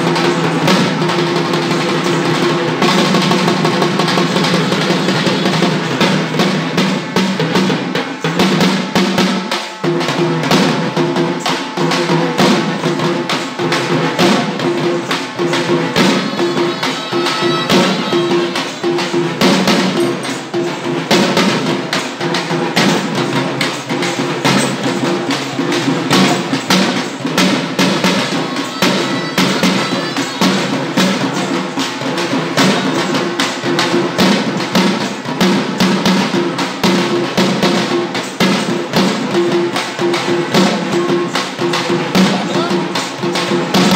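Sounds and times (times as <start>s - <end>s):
drums beaten in fast rhythm: 0.0s - 43.9s.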